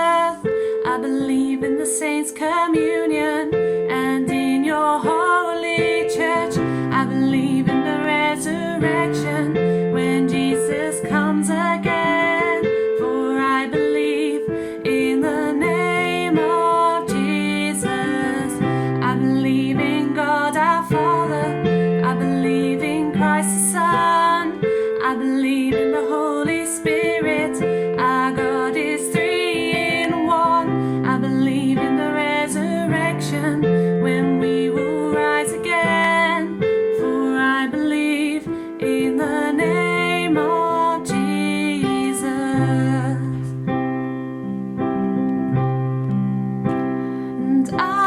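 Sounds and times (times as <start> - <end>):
woman singing: 0.0 - 44.2, 46.8 - 48.0
piano chords: 0.0 - 48.0.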